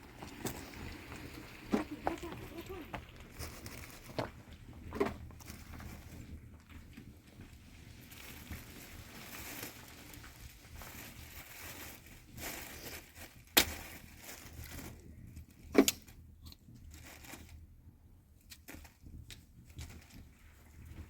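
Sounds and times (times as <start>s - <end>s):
rustling crinkling handling noise: 0.0s - 17.8s, 18.4s - 21.0s.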